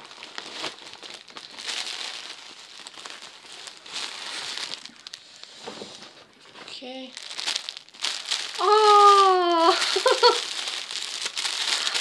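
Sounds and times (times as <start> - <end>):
gift bag rustling: 0.0 - 12.0
plastic wrapping crackling: 0.0 - 12.0.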